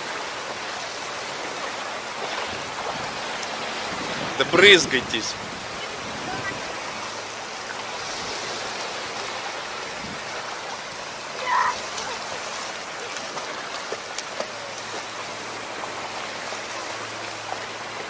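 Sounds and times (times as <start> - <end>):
feet splashing in water: 0.0 - 4.4, 5.3 - 18.0
water washing: 0.0 - 18.0.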